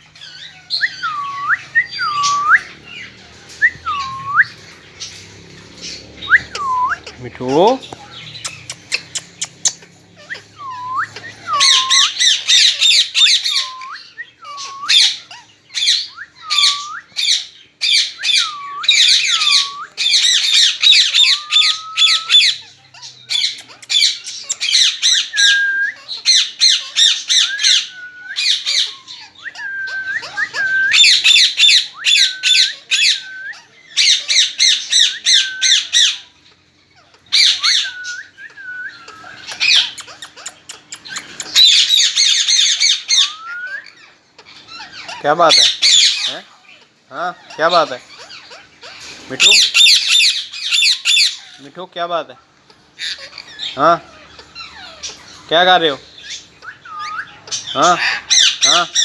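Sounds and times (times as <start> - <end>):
parrot squawking: 0.0 - 59.0
parrot whistling: 0.1 - 5.2, 5.9 - 22.6, 23.3 - 36.2, 37.3 - 46.3, 49.4 - 51.5, 56.2 - 59.0.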